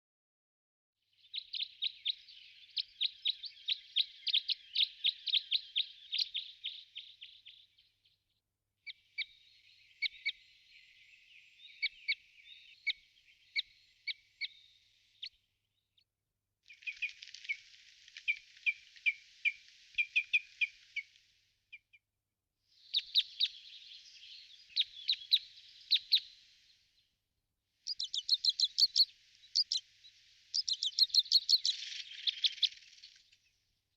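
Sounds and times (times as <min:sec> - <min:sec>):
birds chirping: 0:01.2 - 0:15.9, 0:16.7 - 0:22.0, 0:22.8 - 0:26.9, 0:27.9 - 0:33.6.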